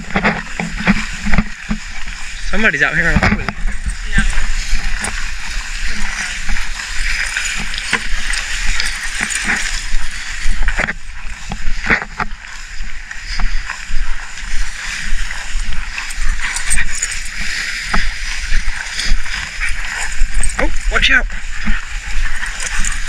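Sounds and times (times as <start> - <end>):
footsteps through tall grass: 0.0 - 23.0.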